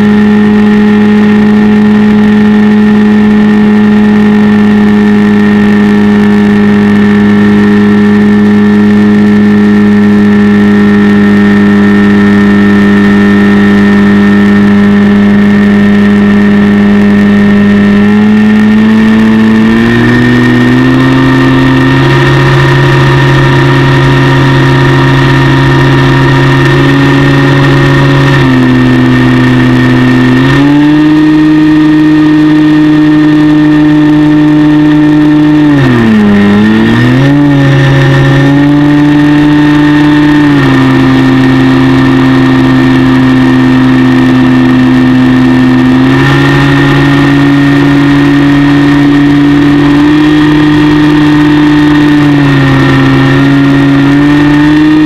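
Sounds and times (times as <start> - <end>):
model plane motor and propeller drone: 0.0 - 55.0.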